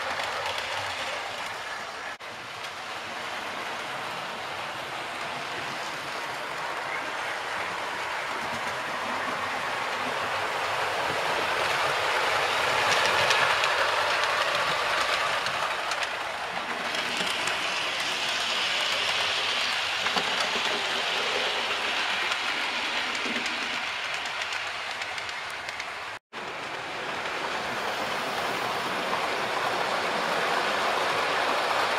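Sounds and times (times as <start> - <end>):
model trains whirring: 0.0 - 31.9.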